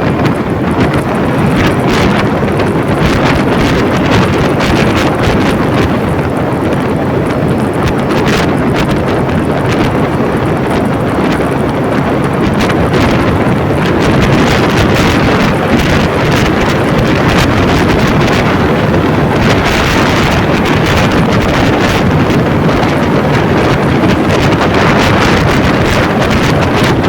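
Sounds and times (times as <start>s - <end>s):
vehicle road noise on wet road: 0.0s - 27.0s
wind rushing over microphone: 0.0s - 27.0s.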